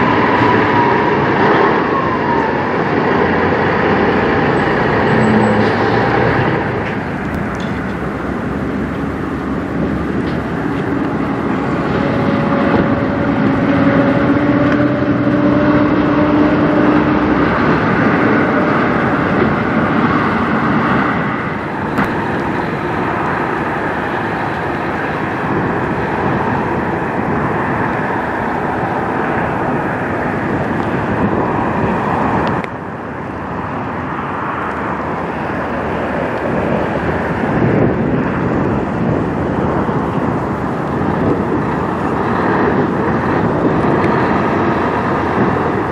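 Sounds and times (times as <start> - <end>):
diesel truck engines running: 0.0 - 45.9
traffic noise: 0.0 - 45.9.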